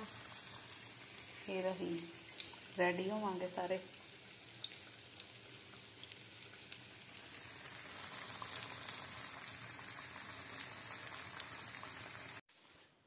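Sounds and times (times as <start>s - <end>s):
food sizzling in hot oil: 0.0s - 12.4s.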